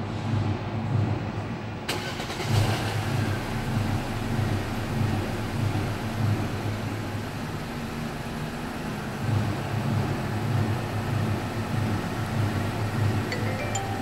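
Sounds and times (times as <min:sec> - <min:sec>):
car engine idling: 0:02.0 - 0:13.4.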